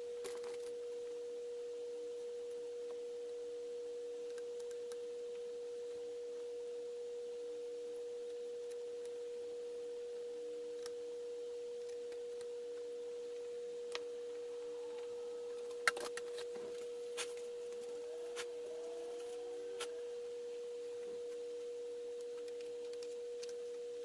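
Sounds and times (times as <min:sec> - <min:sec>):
faint lower tone: 0:00.0 - 0:24.0
steady pure tone: 0:00.0 - 0:24.0.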